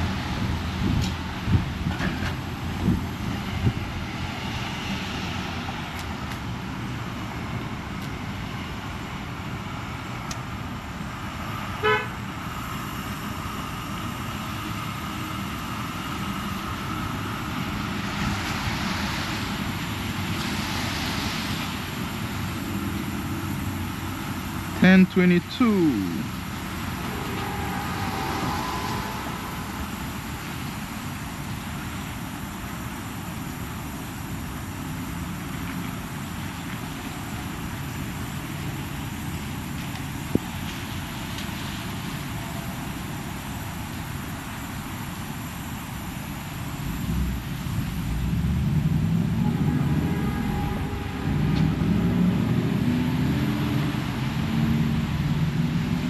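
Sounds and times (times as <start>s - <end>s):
diesel truck engine running: 0.0s - 54.4s.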